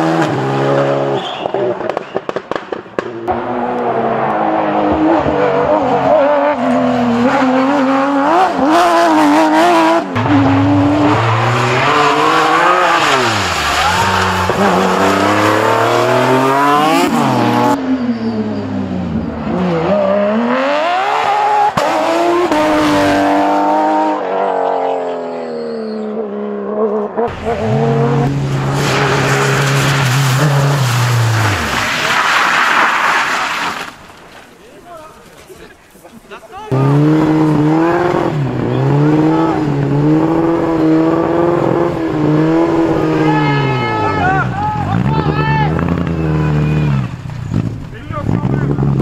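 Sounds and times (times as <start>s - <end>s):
rally car engines revving: 0.0s - 33.9s, 36.7s - 49.0s.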